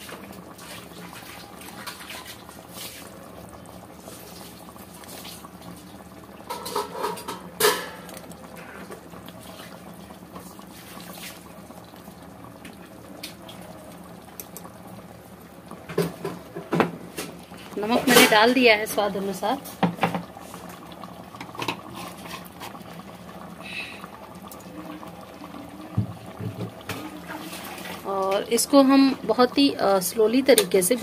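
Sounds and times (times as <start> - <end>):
curry bubbling and sizzling in pot: 0.0 - 31.0.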